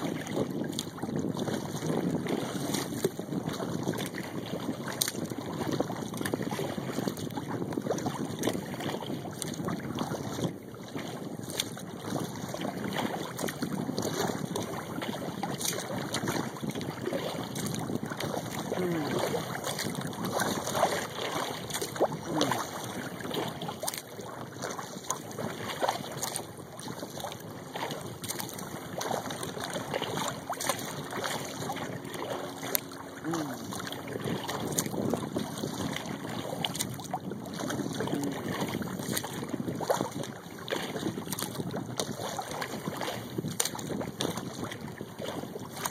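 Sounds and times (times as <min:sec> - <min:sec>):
small splashes and knocks: 0:00.0 - 0:45.9
water lapping around kayak: 0:00.0 - 0:45.9.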